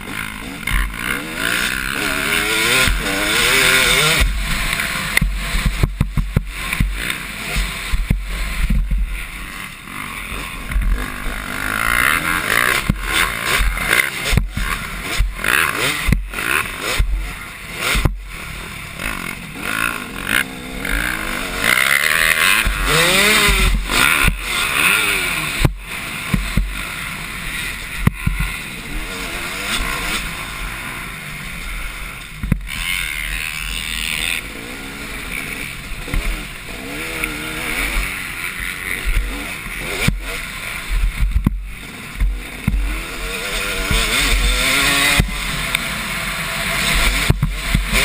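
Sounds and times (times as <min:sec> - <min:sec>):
motocross bikes revving: 0:00.0 - 0:48.0.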